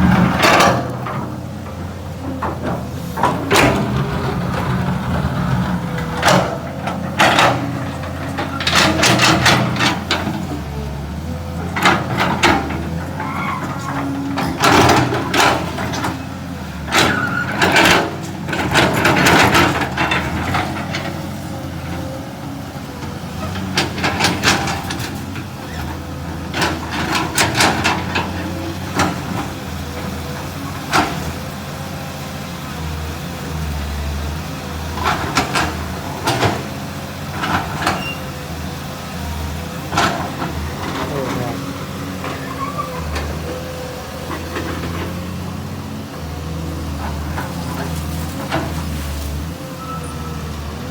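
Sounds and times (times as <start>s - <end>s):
excavator engine under load: 0.0s - 50.9s.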